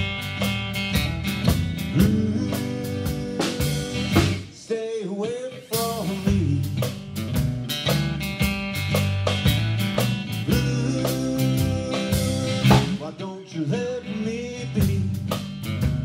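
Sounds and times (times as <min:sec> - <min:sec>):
blues band playing: 0:00.0 - 0:16.0.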